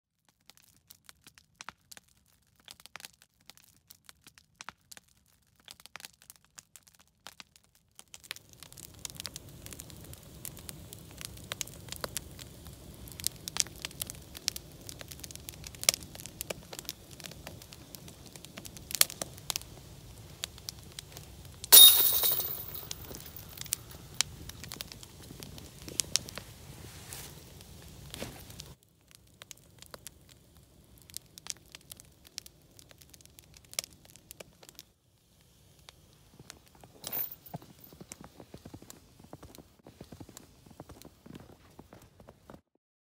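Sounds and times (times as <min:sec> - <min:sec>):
open fire crackling and popping: 0:00.2 - 0:42.7.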